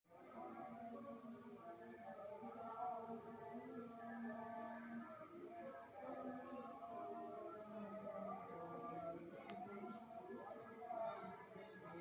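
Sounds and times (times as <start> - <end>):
high-pitched insect trill: 0.1 - 12.0
lower insect calls: 0.2 - 12.0.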